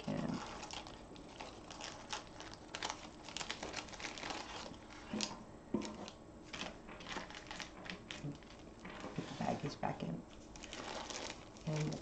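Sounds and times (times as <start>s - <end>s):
plastic bags crinkling: 0.0s - 9.7s, 10.3s - 12.0s.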